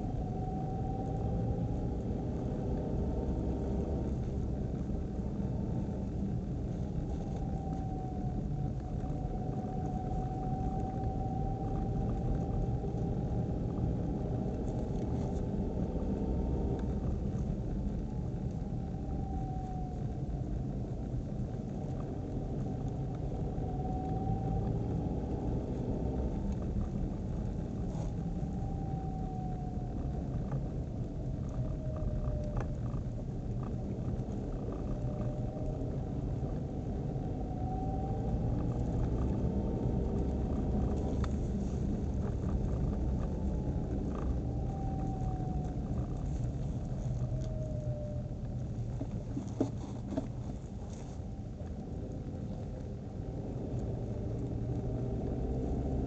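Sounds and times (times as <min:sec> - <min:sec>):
road rumble: 0:00.0 - 0:56.0
transmission whine: 0:00.0 - 0:56.0.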